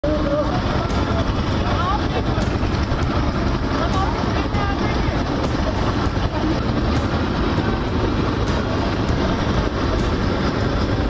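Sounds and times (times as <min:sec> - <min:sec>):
vehicle engines running: 0:00.0 - 0:11.0
vehicles moving through water: 0:00.0 - 0:11.0.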